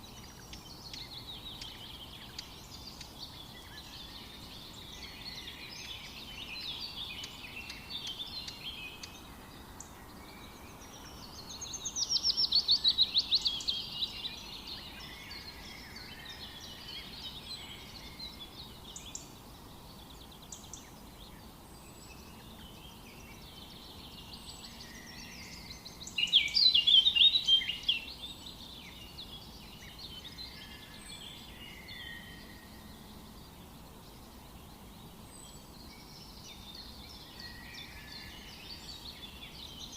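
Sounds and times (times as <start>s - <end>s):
bird song of rapid notes: 0.0s - 39.9s
forest ambience hiss: 0.0s - 39.9s
songbirds chirping and singing: 0.0s - 39.9s.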